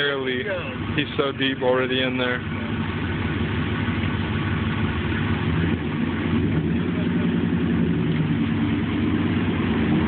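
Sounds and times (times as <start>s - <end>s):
truck engines running under load: 0.0s - 10.0s.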